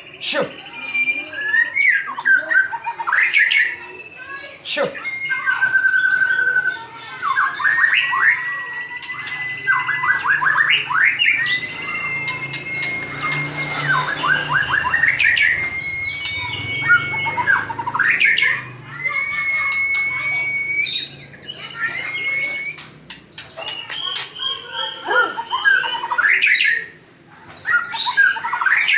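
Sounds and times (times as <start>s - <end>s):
bird singing whistled notes: 0.0s - 27.0s.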